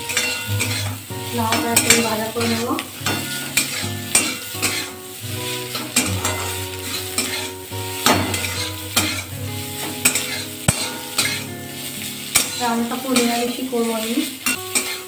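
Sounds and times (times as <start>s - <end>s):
metal spatula scraping pan: 0.0s - 11.6s, 12.2s - 15.0s
food sizzling in oil: 0.0s - 15.0s.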